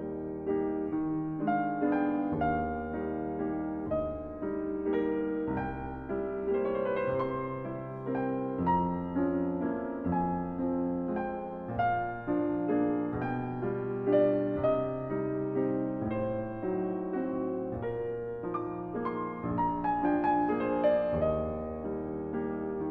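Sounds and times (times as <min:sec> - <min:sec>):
gentle piano melody: 0:00.0 - 0:22.9.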